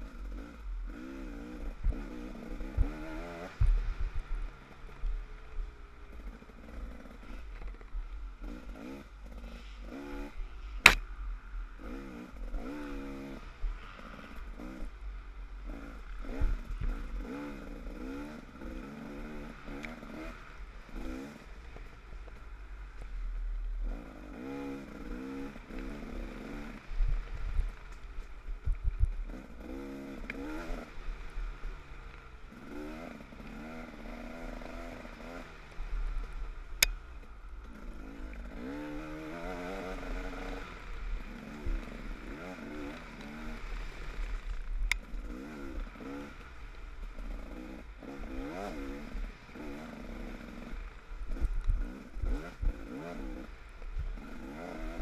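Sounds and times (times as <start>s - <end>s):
dirt bike engine revving: 0.0s - 5.4s, 8.4s - 15.0s, 15.6s - 21.9s, 23.8s - 37.0s, 37.6s - 55.0s.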